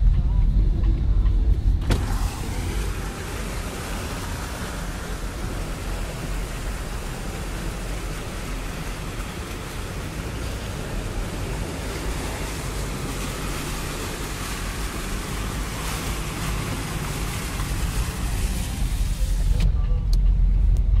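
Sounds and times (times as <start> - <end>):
car interior rumble: 0.0 - 21.0
water rushing over weir: 1.8 - 19.6.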